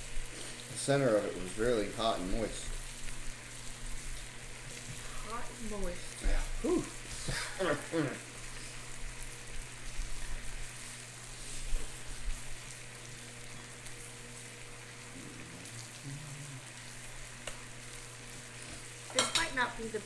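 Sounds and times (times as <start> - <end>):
low steady hum: 0.0 - 20.0
meat sizzling on a grill: 0.0 - 20.0.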